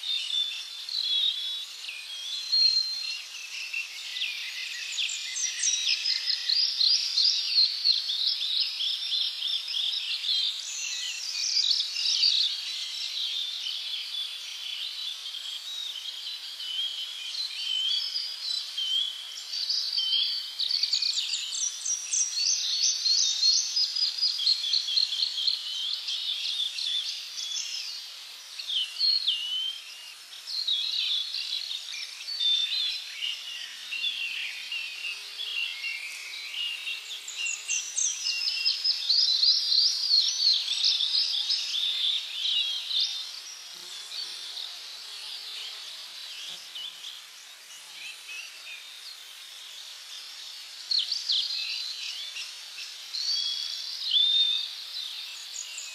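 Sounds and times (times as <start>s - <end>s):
birds singing and chirping: 0.0s - 55.9s
faint steady hiss: 0.0s - 55.9s.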